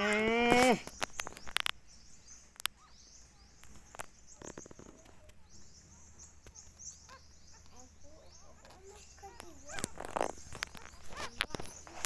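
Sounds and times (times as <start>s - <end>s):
faint high-pitched chirping: 0.0s - 12.0s.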